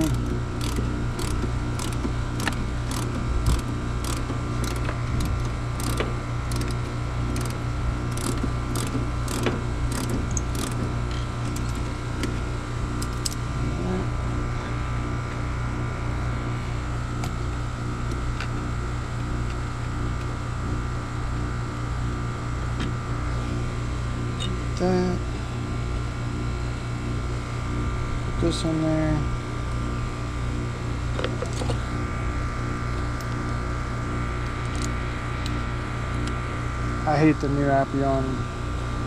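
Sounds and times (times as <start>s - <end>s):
pulsing machine hum: 0.0s - 39.0s.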